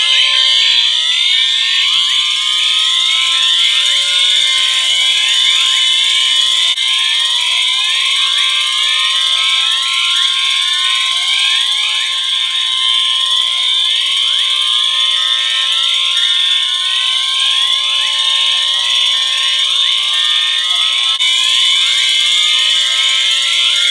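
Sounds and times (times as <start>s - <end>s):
fast pulsing high tone: 0.0s - 23.9s
rising whoop siren sweeps: 0.0s - 23.9s
steady electronic alarm tones: 0.0s - 23.9s.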